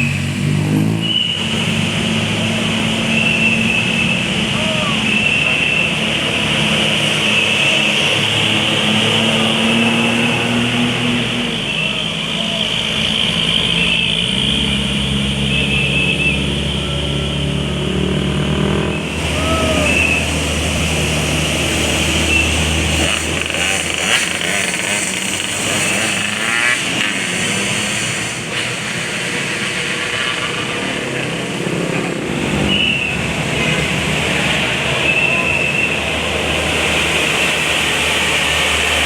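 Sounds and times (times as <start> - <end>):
heavy vehicle engine droning: 0.0 - 39.0
motorcycles passing: 0.0 - 39.0
passing traffic: 0.0 - 39.0.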